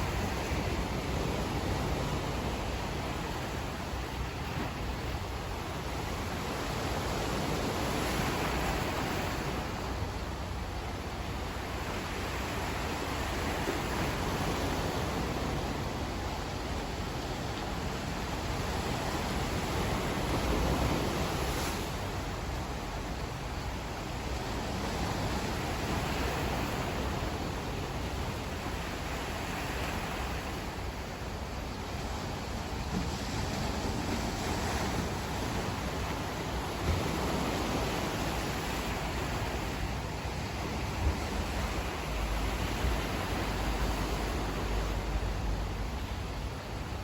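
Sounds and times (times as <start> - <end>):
sea surf rushing: 0.0 - 47.0
wind: 0.0 - 47.0
wind gusts on microphone: 0.0 - 47.0.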